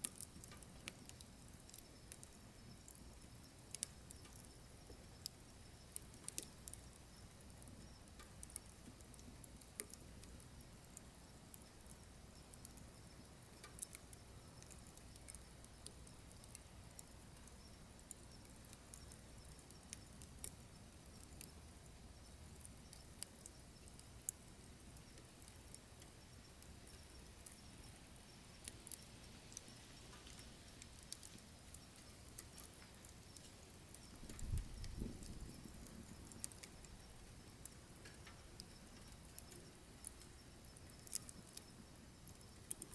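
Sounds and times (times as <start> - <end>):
firewood crackling and popping: 0.0 - 42.9
low rumble of flame: 0.0 - 42.9.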